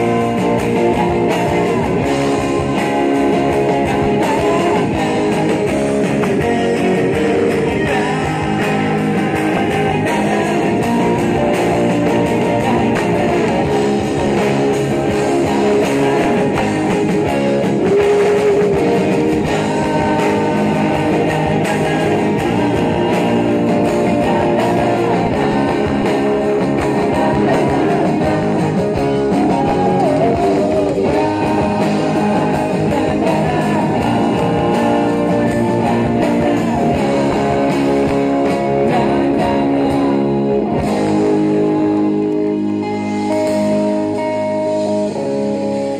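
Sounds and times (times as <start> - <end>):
live pop-rock band: 0.0 - 45.9
man singing lead: 0.0 - 45.9.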